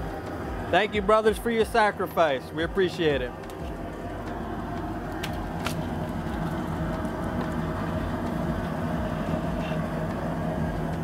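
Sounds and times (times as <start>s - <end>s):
gas burner rumble: 0.0s - 11.0s.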